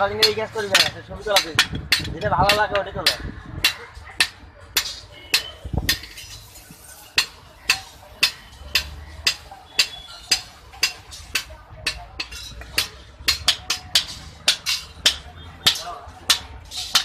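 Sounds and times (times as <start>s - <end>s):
hammer striking iron on anvil: 0.0s - 6.2s, 7.2s - 17.0s.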